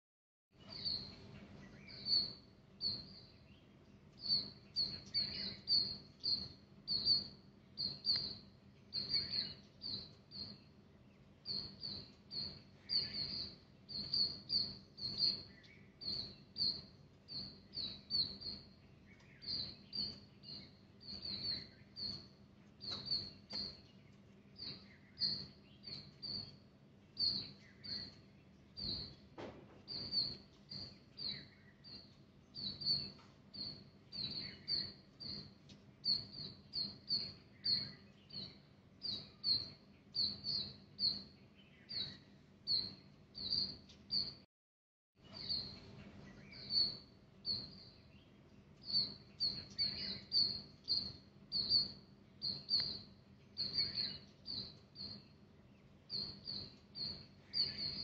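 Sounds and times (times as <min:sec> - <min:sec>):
small bird chirping: 0:00.6 - 0:44.5, 0:45.2 - 0:58.0.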